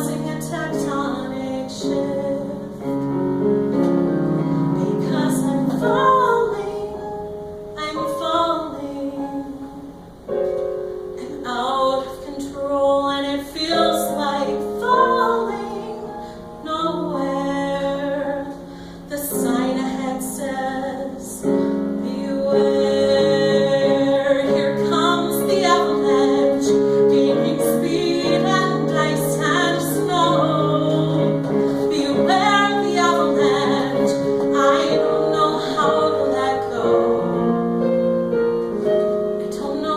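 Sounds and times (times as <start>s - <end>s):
woman singing: 0.0s - 2.9s, 4.8s - 10.0s, 11.2s - 37.9s, 39.4s - 39.9s
piano accompaniment: 0.0s - 39.9s.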